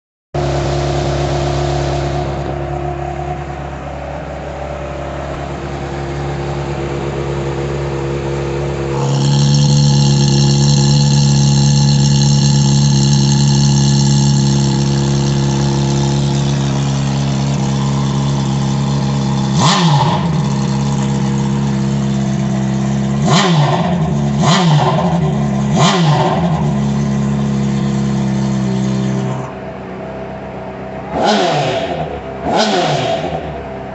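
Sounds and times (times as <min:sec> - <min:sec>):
motorcycle engine idling: 0:00.4 - 0:33.9
motorcycle engine revving: 0:00.4 - 0:33.9.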